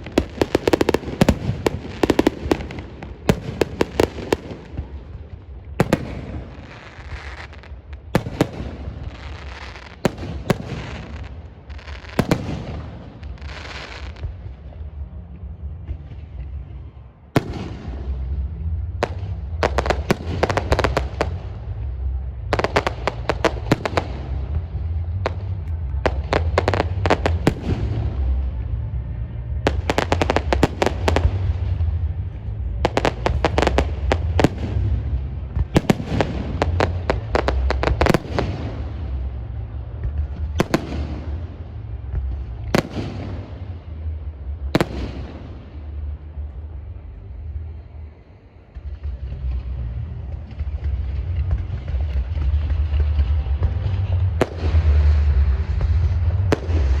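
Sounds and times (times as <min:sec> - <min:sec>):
firecrackers cracking: 0:00.0 - 0:15.0, 0:15.7 - 0:46.7, 0:48.8 - 0:57.0
steady low rumble: 0:00.0 - 0:57.0.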